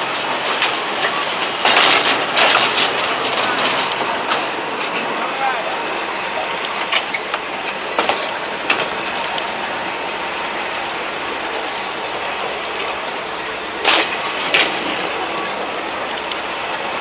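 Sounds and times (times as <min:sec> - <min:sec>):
wheel clacks over rail joints: 0:00.0 - 0:10.0, 0:11.5 - 0:17.0
train rolling on track: 0:00.0 - 0:17.0.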